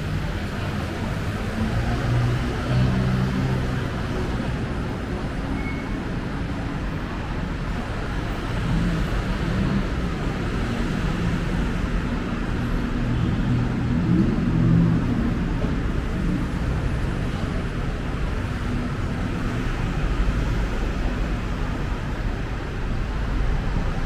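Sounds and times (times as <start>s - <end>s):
road noise: 0.0s - 24.0s
traffic engine hum: 0.0s - 24.0s.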